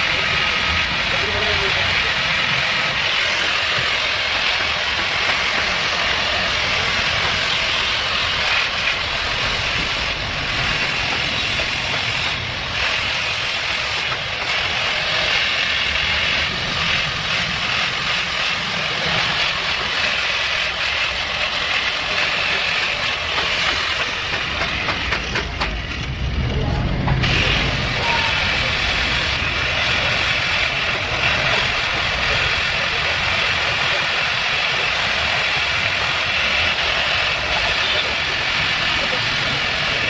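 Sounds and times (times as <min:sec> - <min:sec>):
welding torch flame hissing: 0:00.0 - 0:25.4, 0:27.1 - 0:40.0.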